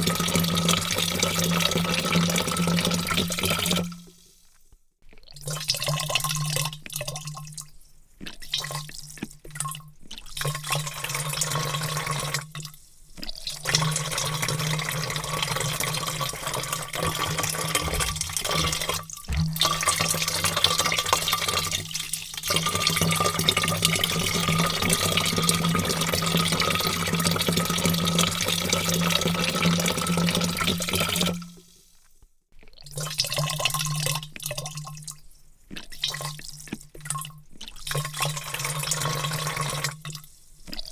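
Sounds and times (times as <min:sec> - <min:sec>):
water pouring into a vat: 0:00.0 - 0:04.2, 0:05.1 - 0:31.7, 0:32.6 - 0:40.9.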